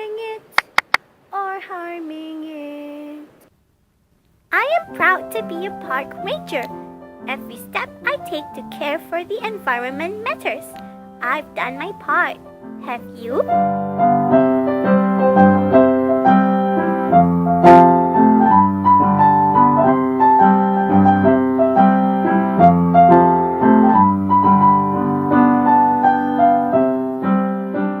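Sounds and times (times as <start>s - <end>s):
piano-like keyboard melody: 4.7s - 28.0s.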